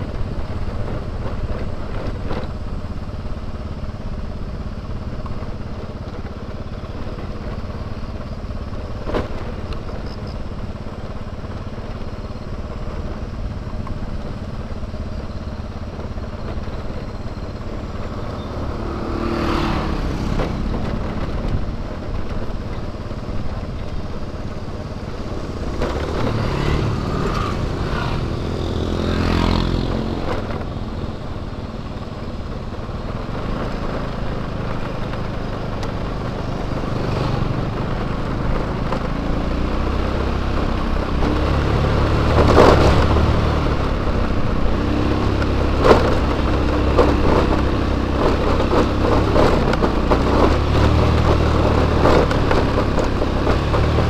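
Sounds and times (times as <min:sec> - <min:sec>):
small motorbike engine: 0:00.0 - 0:54.0
wind and road noise: 0:00.0 - 0:54.0.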